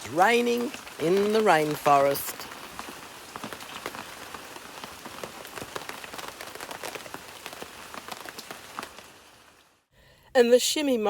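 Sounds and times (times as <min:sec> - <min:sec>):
raindrops pattering on surfaces: 0:00.0 - 0:09.9
steady rain falling: 0:00.0 - 0:09.9.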